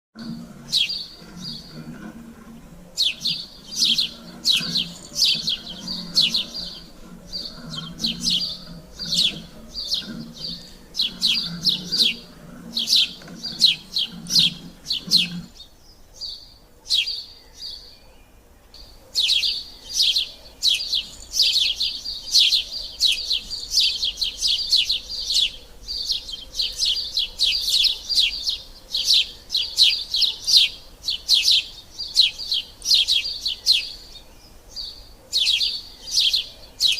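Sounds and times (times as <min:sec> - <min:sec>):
faint low hum: 0:00.2 - 0:36.8
sparrows chirping: 0:00.2 - 0:36.9.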